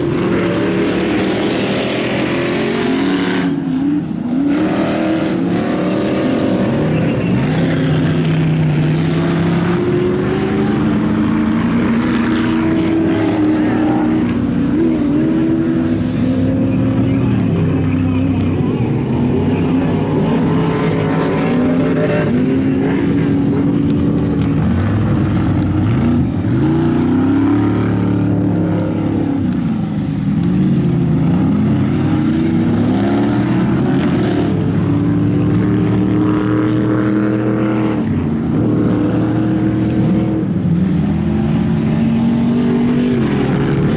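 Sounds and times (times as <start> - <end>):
buggy engine revving hard: 0.0 - 43.9.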